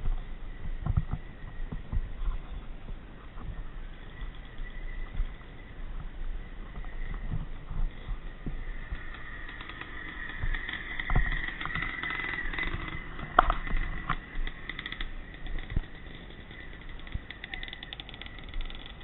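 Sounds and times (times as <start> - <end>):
distant motorcycle engines: 0.0 - 19.0.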